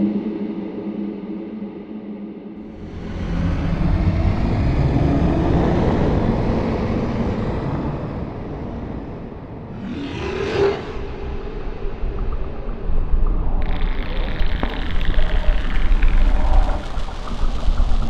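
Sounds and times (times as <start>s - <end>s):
deep rumbling drone: 2.6s - 18.0s.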